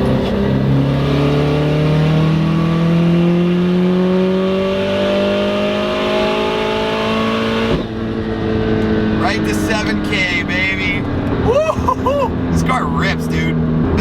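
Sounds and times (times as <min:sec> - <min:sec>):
car engine full-throttle pull: 0:00.0 - 0:14.0.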